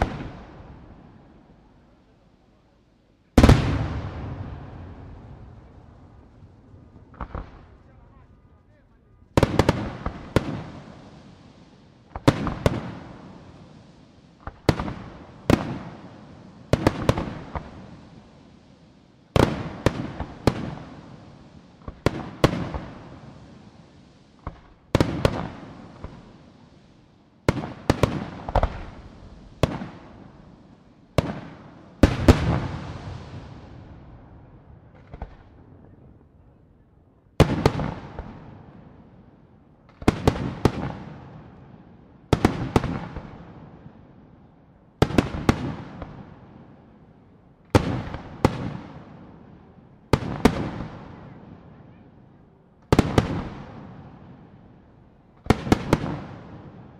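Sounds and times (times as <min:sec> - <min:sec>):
fireworks bursting with echo: 0:00.0 - 0:56.9.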